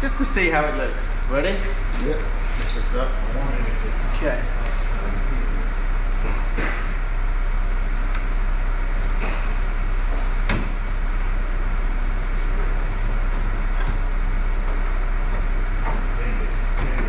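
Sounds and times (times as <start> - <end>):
mechanical drone with low hum: 0.0 - 17.0.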